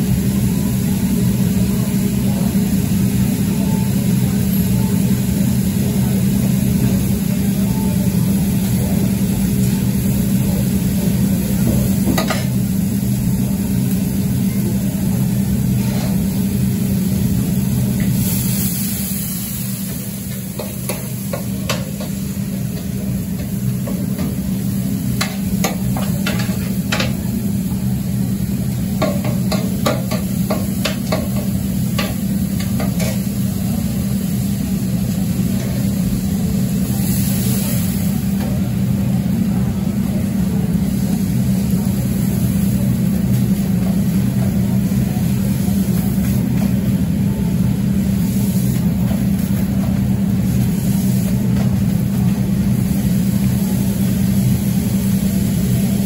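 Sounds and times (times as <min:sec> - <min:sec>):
meat sizzling in oil: 0:00.0 - 0:39.4, 0:40.2 - 0:56.0.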